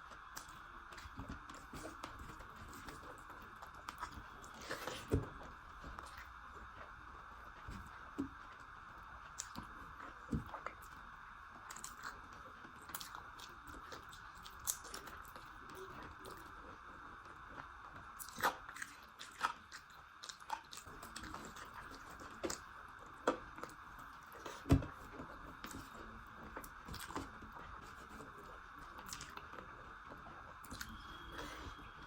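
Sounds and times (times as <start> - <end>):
person chewing food: 0.1 - 11.0, 11.6 - 32.0.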